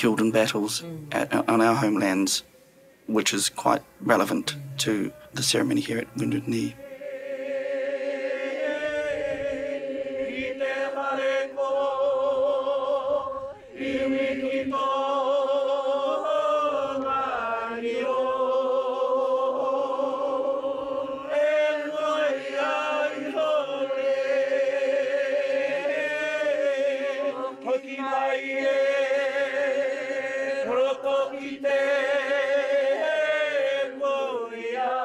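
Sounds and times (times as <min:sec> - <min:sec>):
voices chanting a held note: 0:00.0 - 0:34.8.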